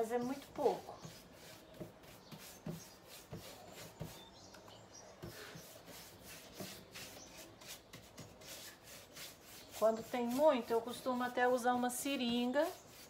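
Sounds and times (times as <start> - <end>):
paintbrush strokes on wood: 0.0 - 13.0.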